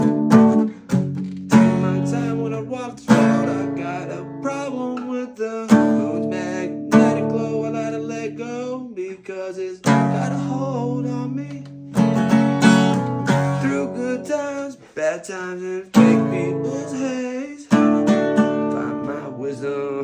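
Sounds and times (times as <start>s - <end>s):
acoustic guitar strumming chords: 0.0s - 8.8s, 9.8s - 15.2s, 15.9s - 20.0s.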